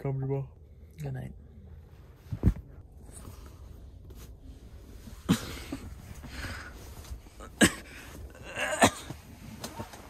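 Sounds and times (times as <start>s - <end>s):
clothing and bedding rustling: 1.8s - 10.0s.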